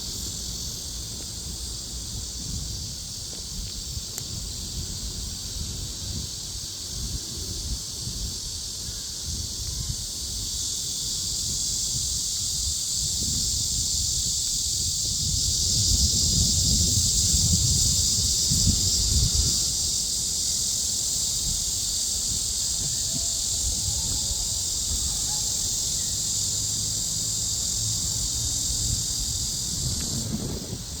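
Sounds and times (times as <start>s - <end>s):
cicadas buzzing: 0.0s - 31.0s
wind rumble on microphone: 0.0s - 31.0s.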